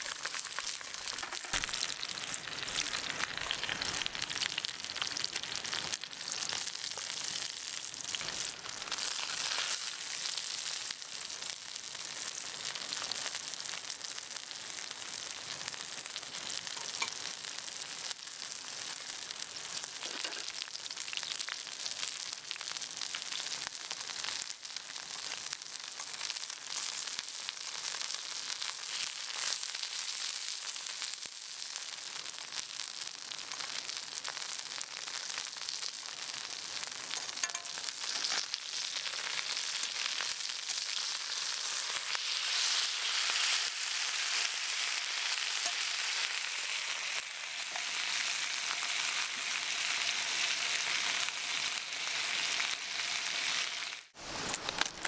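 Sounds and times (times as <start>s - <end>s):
chicken sizzling over fire: 0.0s - 55.0s.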